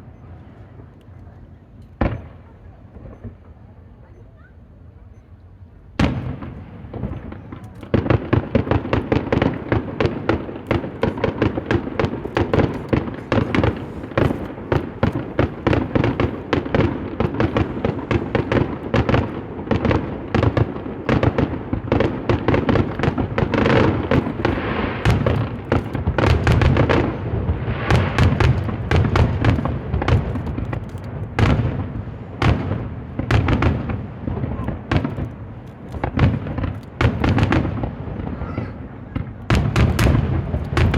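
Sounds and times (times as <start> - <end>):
fireworks crackling: 6.0 - 40.9.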